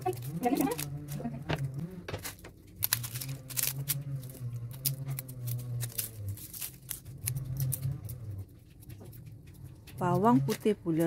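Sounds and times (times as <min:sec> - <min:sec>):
onion skins crackling: 0:00.0 - 0:11.0.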